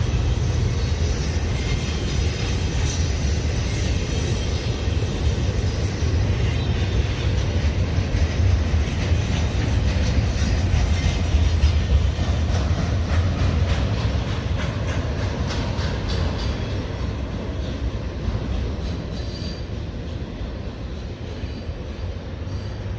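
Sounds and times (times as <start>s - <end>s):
wheels clicking over rail joints: 0.0s - 20.3s
freight train cars rumbling: 0.0s - 22.9s.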